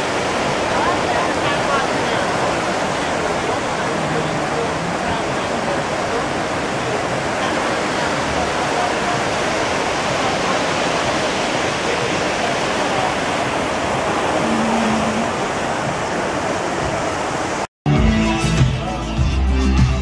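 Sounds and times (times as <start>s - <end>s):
ship wake churning: 0.0s - 17.7s
wind rushing: 0.0s - 17.7s.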